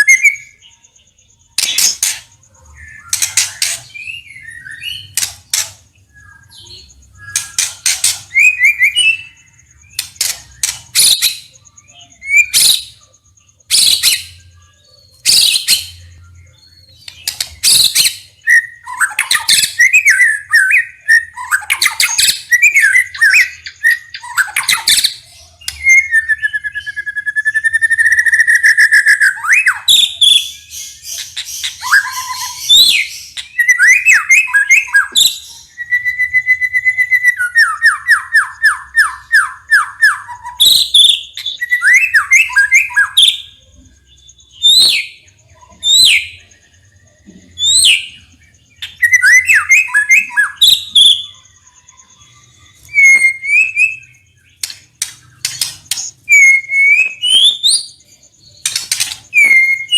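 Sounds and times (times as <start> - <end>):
bird singing: 0.0 - 59.9.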